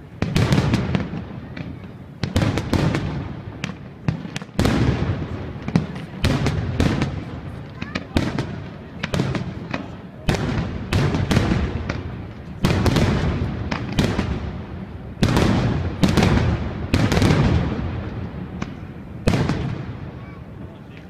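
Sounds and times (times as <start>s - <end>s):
fireworks bursting with rumble: 0.0s - 21.0s.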